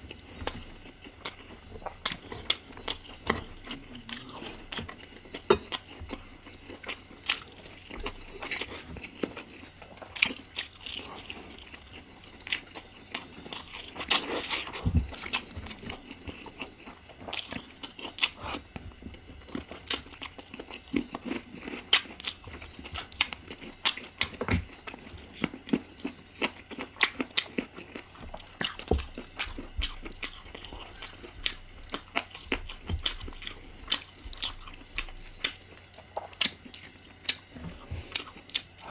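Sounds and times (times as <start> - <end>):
close chewing and biting: 0.0 - 38.9.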